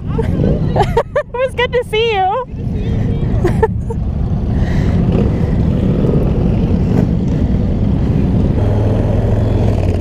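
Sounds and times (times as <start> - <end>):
motorcycle engines rumbling: 0.0 - 10.0.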